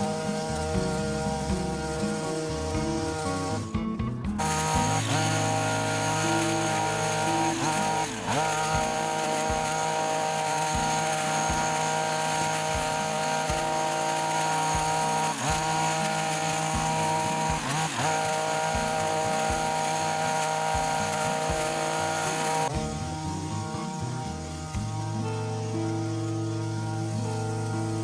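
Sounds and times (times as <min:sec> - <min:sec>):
two-stroke engine running at high revs: 0:00.0 - 0:28.0.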